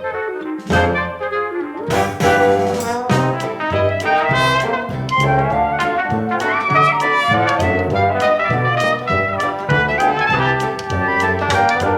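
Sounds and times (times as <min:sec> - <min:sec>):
brass music over a beat: 0:00.0 - 0:11.9.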